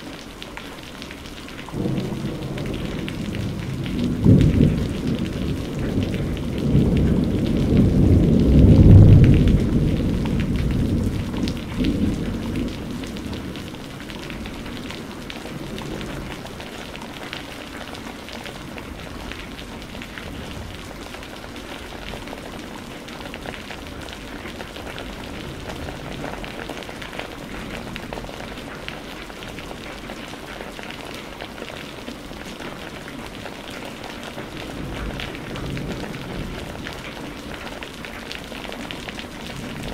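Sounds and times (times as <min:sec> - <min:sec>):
steady rain hiss: 0:00.0 - 0:39.9
thunder rumbling: 0:01.7 - 0:28.9, 0:34.4 - 0:39.9.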